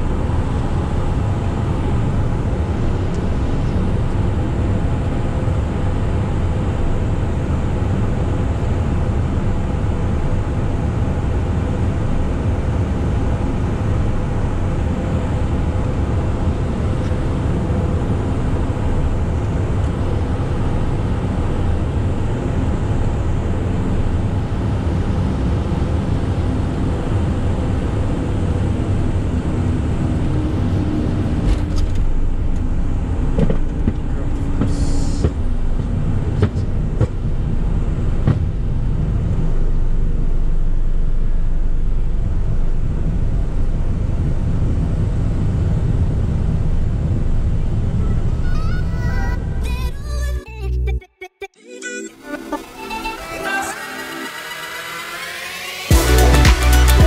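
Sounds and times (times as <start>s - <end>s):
jet engines humming: 0.0s - 49.9s, 52.2s - 57.0s
runway rollout rumble: 0.0s - 50.4s.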